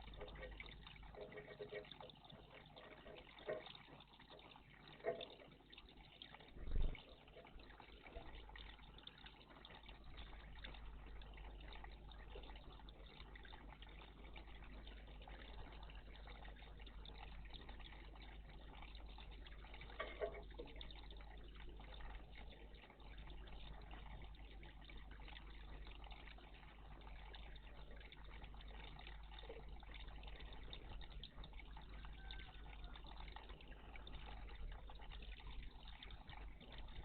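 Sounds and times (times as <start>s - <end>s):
faint water trickling in bird bath: 0.0s - 37.0s.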